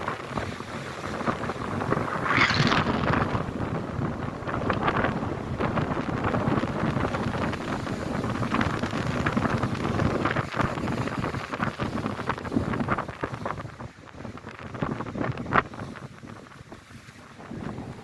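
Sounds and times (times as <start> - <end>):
gusty wind on microphone: 0.0 - 18.0.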